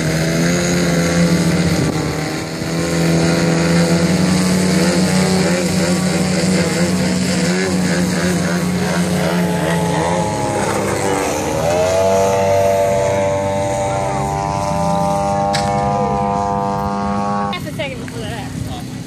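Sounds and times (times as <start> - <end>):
model plane engine: 0.0 - 19.0.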